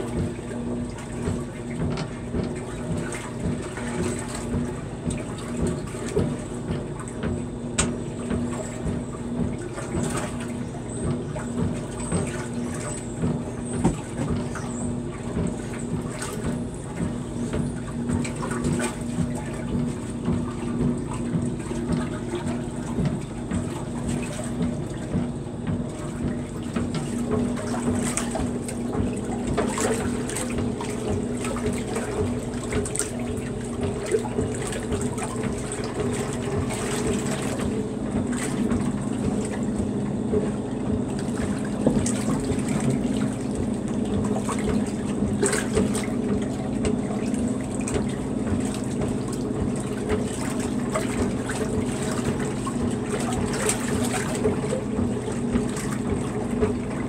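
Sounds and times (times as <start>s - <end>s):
washer motor hum: 0.0s - 57.0s
water churning and sloshing: 0.0s - 57.0s.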